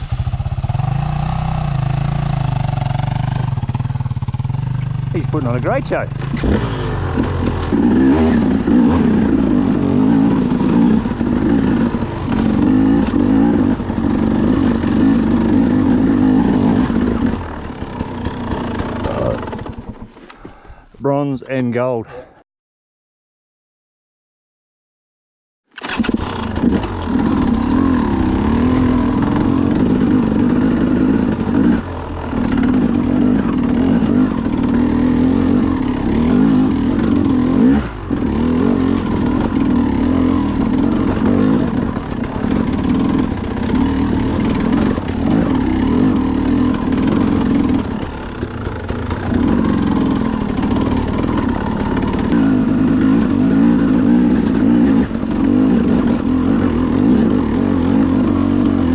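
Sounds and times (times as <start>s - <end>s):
dirt bike engine revving: 0.0s - 20.1s, 25.8s - 58.9s.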